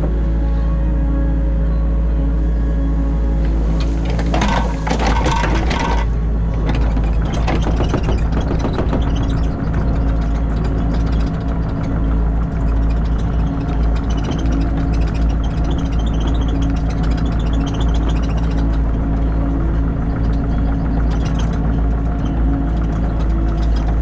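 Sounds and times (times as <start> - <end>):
excavator engine running: 0.0 - 24.0
clattering and scraping: 3.4 - 24.0.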